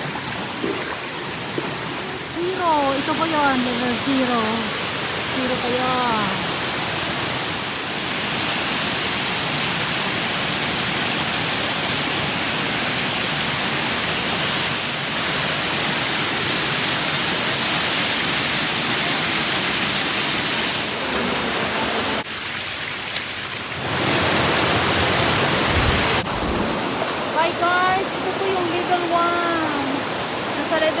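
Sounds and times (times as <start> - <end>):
waterfall rushing water: 0.0 - 31.0.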